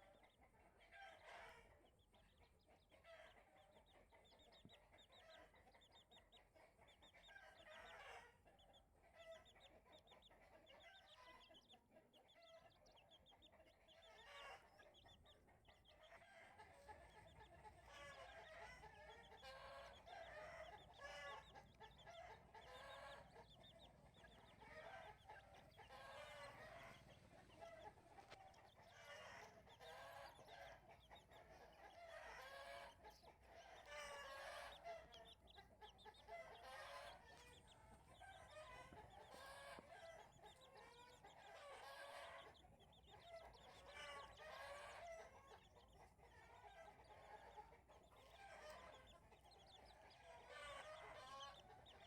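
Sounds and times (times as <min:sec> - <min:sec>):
chicken clucking: 0:00.0 - 0:52.0.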